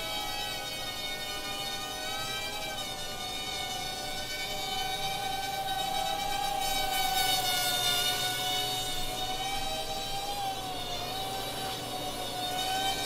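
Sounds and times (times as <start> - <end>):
small quadcopter motors whining: 0.0 - 13.0.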